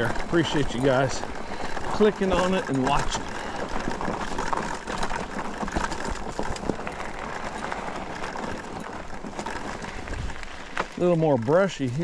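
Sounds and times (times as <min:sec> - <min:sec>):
bike tyre and ground noise: 0:00.0 - 0:12.0
small crackles and rattles: 0:00.0 - 0:12.0.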